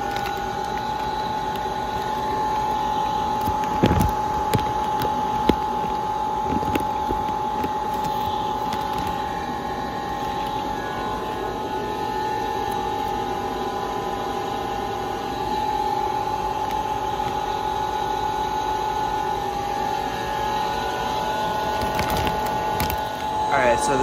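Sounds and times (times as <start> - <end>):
small motor humming with whine: 0.0 - 24.0.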